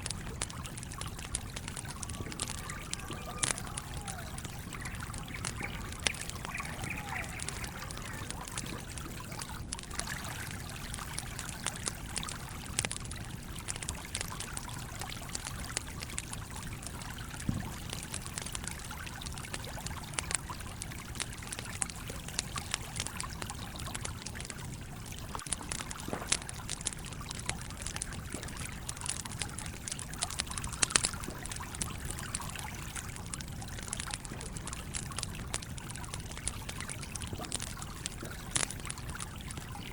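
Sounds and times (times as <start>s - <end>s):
campfire crackling: 0.0s - 39.9s
stream trickling: 0.0s - 39.9s.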